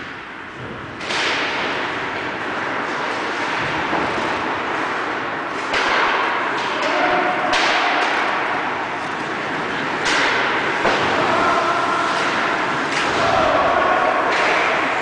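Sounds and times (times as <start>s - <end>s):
sharp hockey hits echoing: 0.0s - 15.0s.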